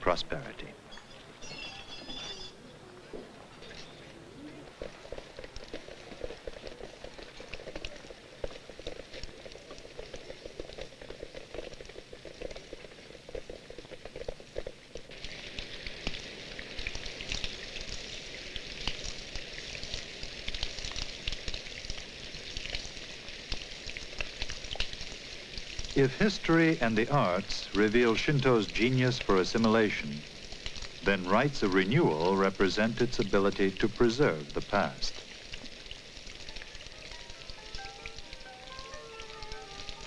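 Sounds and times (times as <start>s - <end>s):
rain falling on water: 0.0s - 40.0s.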